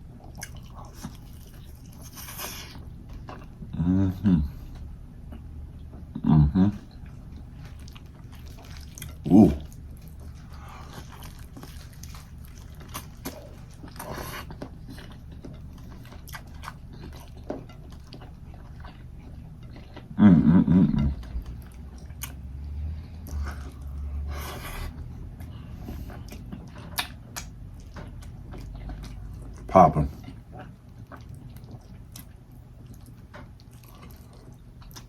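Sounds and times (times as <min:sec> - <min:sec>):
chewing and mouth smacking: 0:00.2 - 0:03.6, 0:06.8 - 0:20.2, 0:21.0 - 0:35.0.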